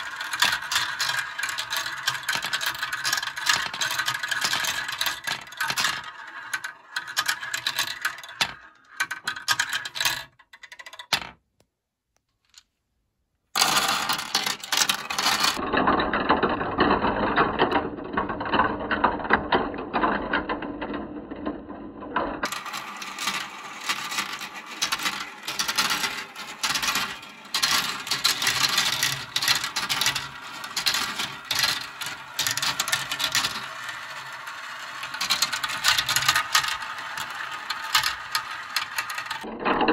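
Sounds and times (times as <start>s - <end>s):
plastic balls rattling down marble run: 0.0s - 11.4s, 13.6s - 39.9s.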